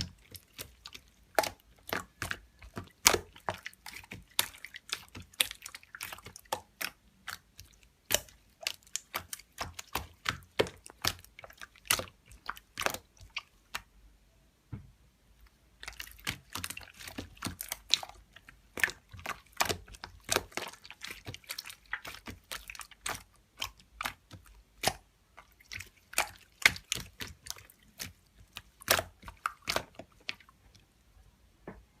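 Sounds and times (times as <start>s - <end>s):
slime squeezed with wet pops: 0.0s - 13.9s, 15.8s - 30.6s.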